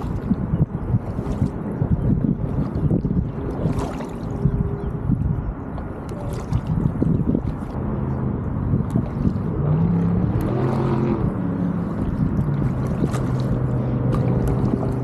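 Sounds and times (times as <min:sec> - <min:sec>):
water splashing: 0:00.0 - 0:04.9, 0:05.6 - 0:07.9, 0:08.5 - 0:15.0
boat motor running: 0:00.0 - 0:15.0.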